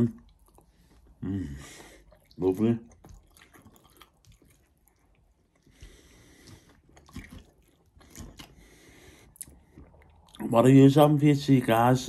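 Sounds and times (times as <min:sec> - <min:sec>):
faint chewing: 0:00.0 - 0:10.6.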